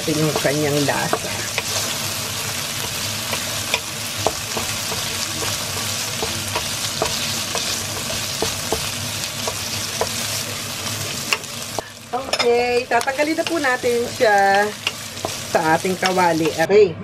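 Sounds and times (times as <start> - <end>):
sausage sizzling in a frying pan: 0.0 - 16.7
spatula tapping and scraping pan: 0.2 - 16.7.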